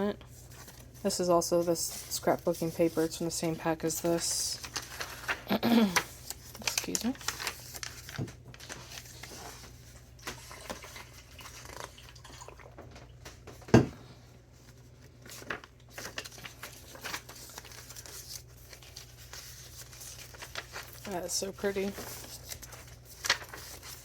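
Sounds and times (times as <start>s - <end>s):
paper pages rustling: 0.2s - 12.2s, 14.4s - 24.0s.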